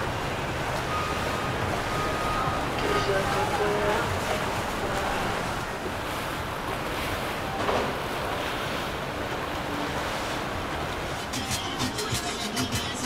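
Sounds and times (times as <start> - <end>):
outboard motors running: 0.0 - 13.0
water wash: 0.0 - 13.0.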